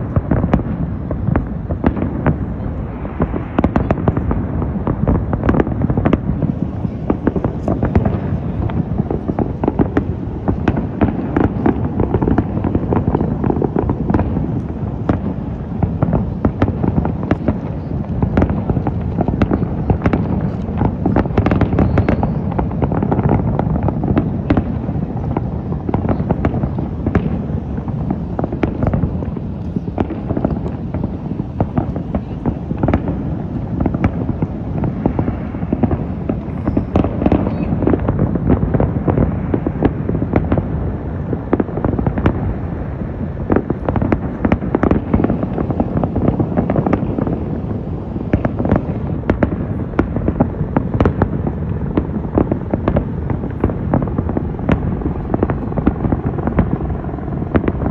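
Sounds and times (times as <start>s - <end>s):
distant fireworks booming: 0.0s - 57.9s
sharp firework cracks: 0.0s - 57.9s.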